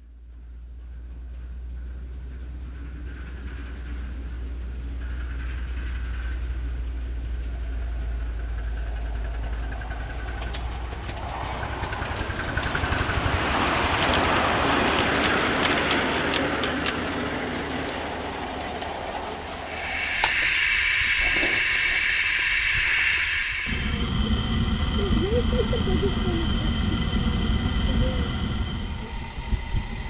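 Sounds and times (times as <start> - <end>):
miniature steam train rumbling: 0.1 - 30.0
wheels clicking on rails: 0.8 - 30.0.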